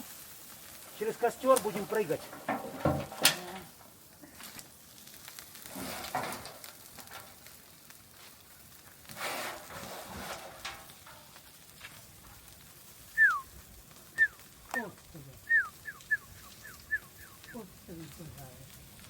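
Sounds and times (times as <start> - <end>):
bonfire crackling and hissing: 0.0 - 19.0
small pops from fire: 0.0 - 19.0.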